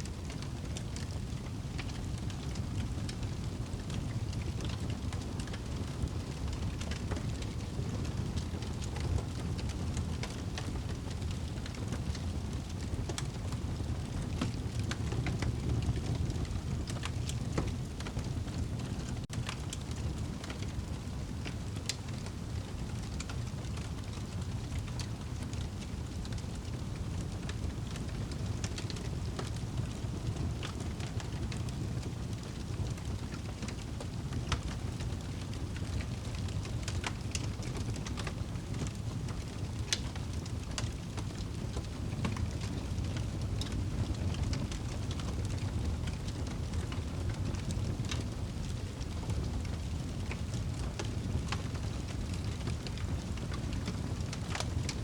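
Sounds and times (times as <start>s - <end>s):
wood fire burning: 0.0s - 55.0s.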